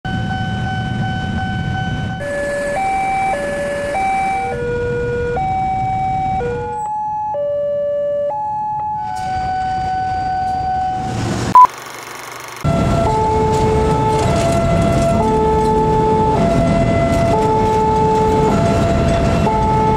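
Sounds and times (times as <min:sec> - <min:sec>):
railroad crossing alarm tones: 0:00.1 - 0:11.7, 0:12.6 - 0:19.9.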